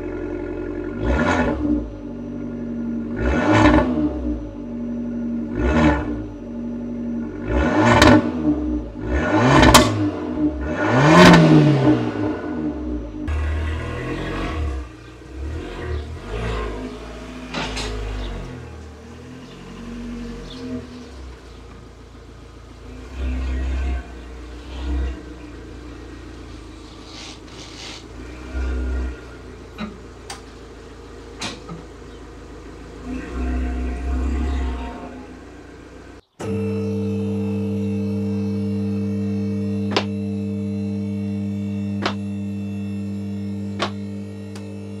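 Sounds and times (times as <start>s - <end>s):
car engine revving at low speed: 0.0s - 45.0s.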